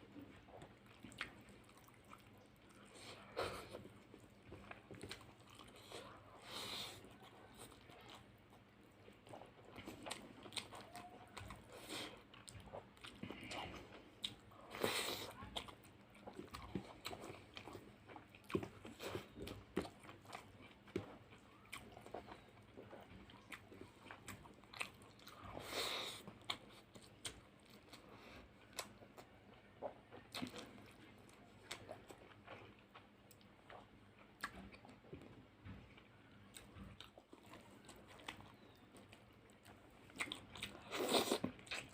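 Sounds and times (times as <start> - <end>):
wet chewing and mouth smacks: 0.1 - 41.9.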